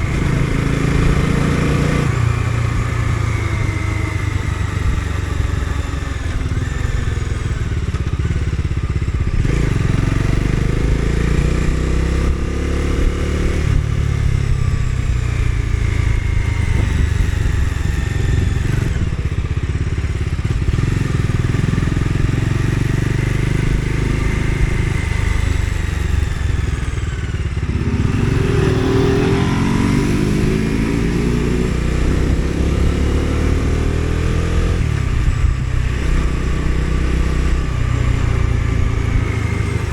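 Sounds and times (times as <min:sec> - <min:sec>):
motorcycle engine revving through gears: 0:00.0 - 0:39.9
road rumble: 0:00.0 - 0:39.9
wind: 0:00.0 - 0:39.9.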